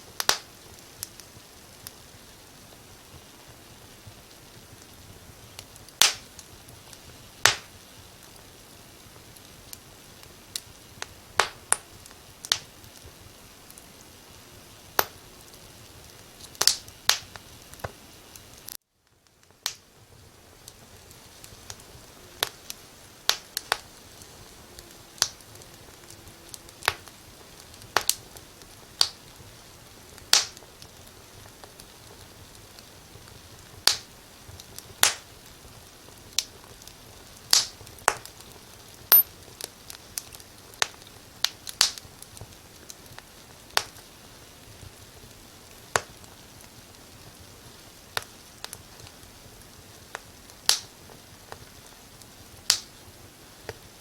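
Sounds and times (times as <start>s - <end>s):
faint steady hiss: 0.0s - 54.0s
wood fire crackling: 0.0s - 54.0s.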